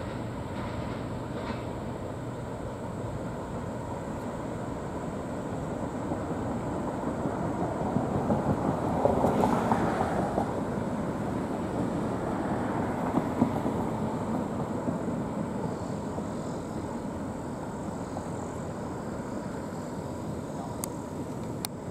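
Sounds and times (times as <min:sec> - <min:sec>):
freight cars rolling on track: 0:00.0 - 0:21.9.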